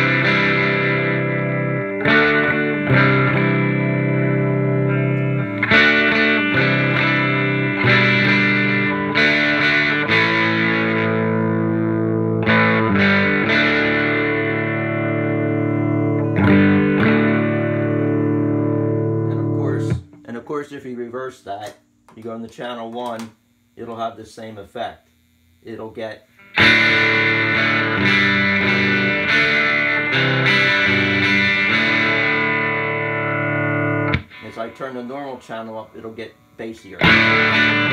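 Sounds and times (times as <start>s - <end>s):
electric guitar chords ringing: 0.0s - 20.4s, 26.3s - 37.9s.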